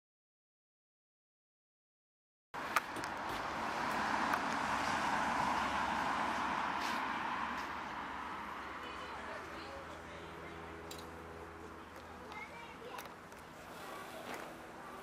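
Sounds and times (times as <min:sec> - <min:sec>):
vehicle passing: 0:02.6 - 0:15.0.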